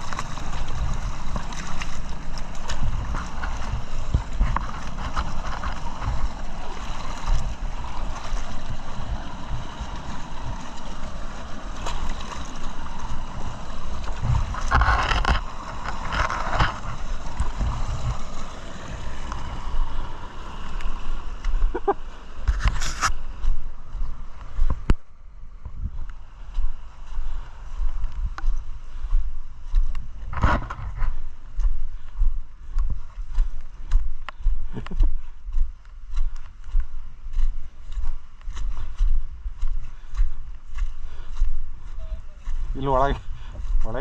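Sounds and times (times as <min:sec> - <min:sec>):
low rumble on microphone: 0:00.0 - 0:44.0.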